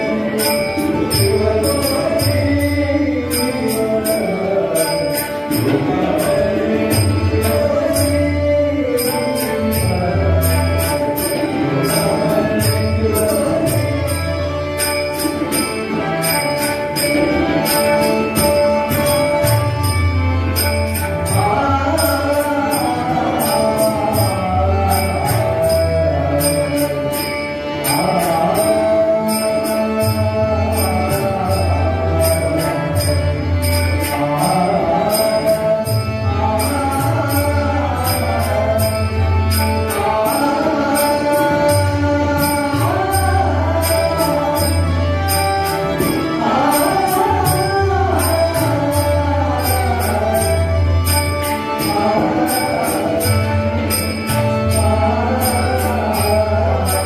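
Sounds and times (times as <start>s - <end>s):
jingling metal percussion: 0.0s - 57.0s
tabla steady rhythm: 0.0s - 57.0s.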